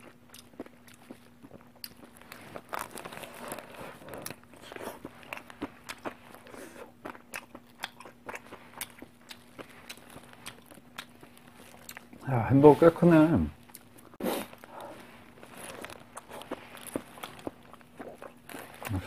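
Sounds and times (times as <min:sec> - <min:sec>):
person chewing food: 0:00.0 - 0:12.9, 0:13.6 - 0:19.0
steady low hum: 0:00.0 - 0:19.0.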